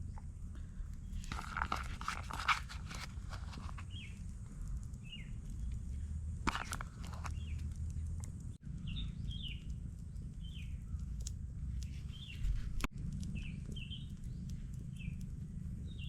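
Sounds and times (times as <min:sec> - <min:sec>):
low rumble: 0:00.0 - 0:16.0
bird chirping: 0:02.6 - 0:16.0.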